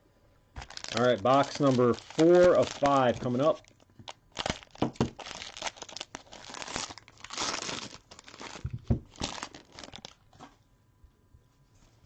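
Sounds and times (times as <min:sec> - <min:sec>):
plastic shrink wrap crinkling: 0:00.6 - 0:10.6.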